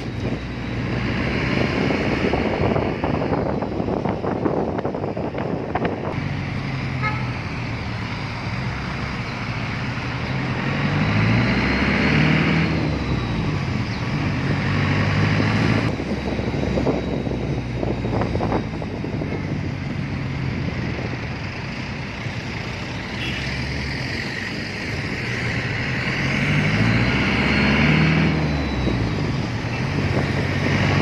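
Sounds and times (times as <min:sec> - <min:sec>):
tyre and traffic noise: 0:00.0 - 0:31.0
vehicle engine driving: 0:00.0 - 0:31.0.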